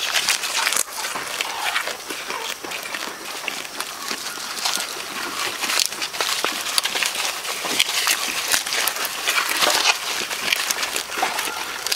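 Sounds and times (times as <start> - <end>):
goats chewing and tearing leaves: 0.0 - 11.9.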